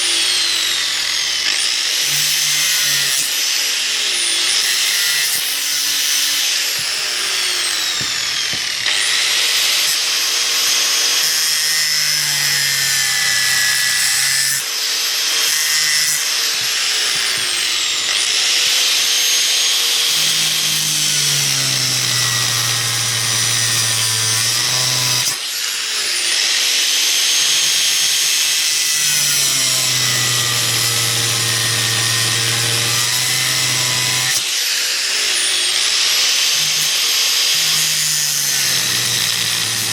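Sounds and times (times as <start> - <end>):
power tool motor cutting: 0.0 - 39.9.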